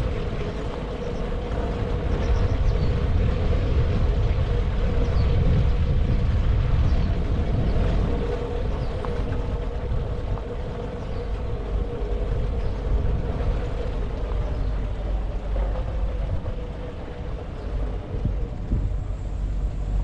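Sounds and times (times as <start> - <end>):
faint steady hum: 0.0 - 20.0
wind and road rumble: 0.0 - 20.0.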